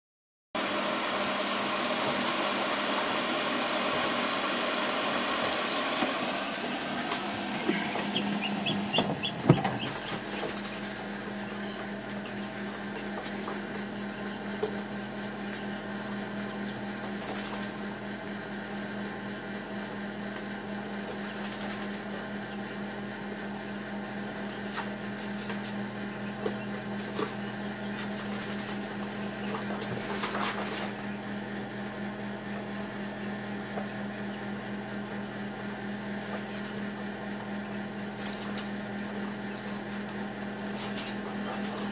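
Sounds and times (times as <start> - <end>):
fan motor humming: 0.6 - 41.9.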